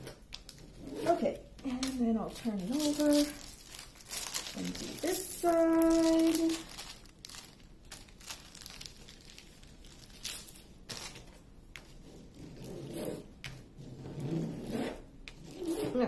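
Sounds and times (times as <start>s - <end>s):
plastic crinkling: 0.0s - 13.7s
wooden stick scraping plastic film: 0.0s - 16.0s.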